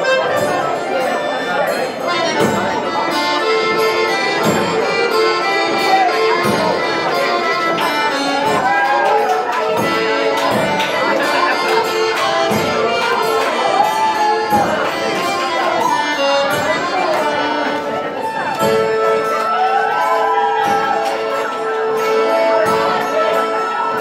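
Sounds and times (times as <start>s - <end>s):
live dance band playing: 0.0s - 24.0s.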